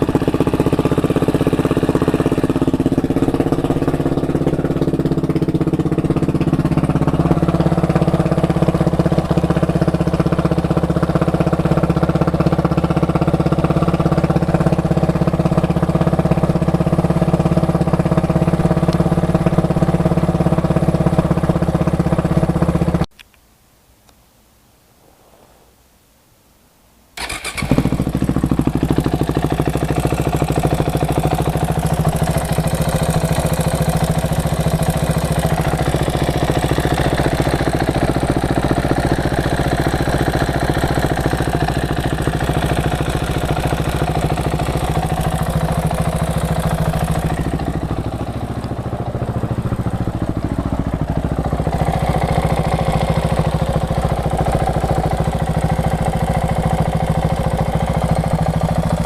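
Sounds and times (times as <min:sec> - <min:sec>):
engine ticking: 0:00.0 - 0:23.1, 0:27.2 - 0:59.0
motorcycle engine idling: 0:00.0 - 0:23.1, 0:27.2 - 0:59.0.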